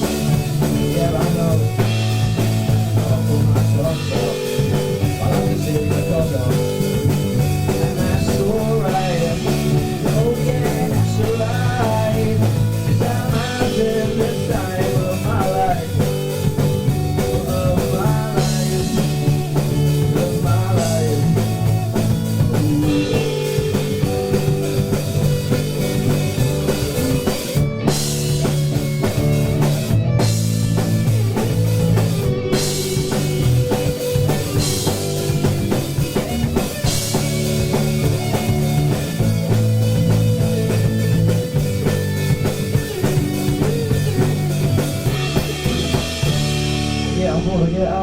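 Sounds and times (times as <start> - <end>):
drum kit: 0.0 - 48.0
electric guitar: 0.0 - 48.0
rock band playing: 0.0 - 48.0.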